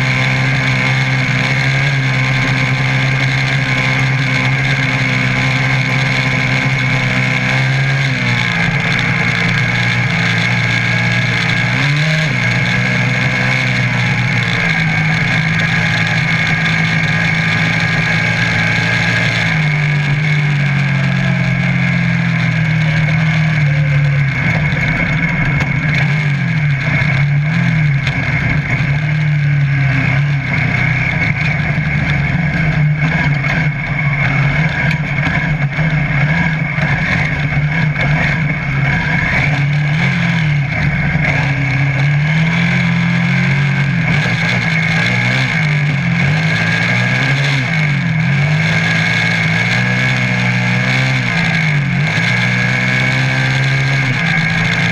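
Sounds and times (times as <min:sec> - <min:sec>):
buggy engine revving: 0:00.0 - 0:54.9
wind and road noise: 0:00.0 - 0:54.9.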